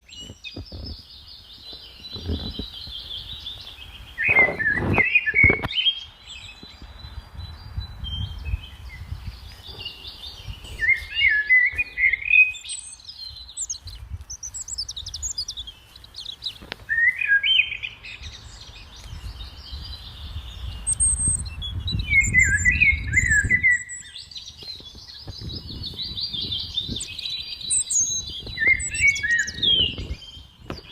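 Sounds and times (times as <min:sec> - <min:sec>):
songbirds chirping and trilling: 0:00.0 - 0:30.9.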